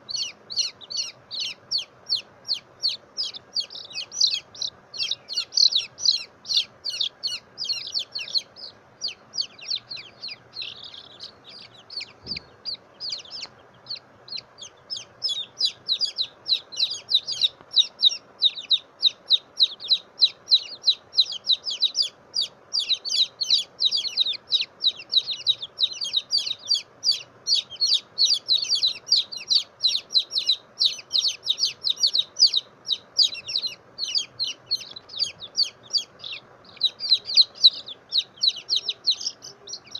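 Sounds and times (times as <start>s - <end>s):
chick peeping loudly: 0.0s - 39.9s.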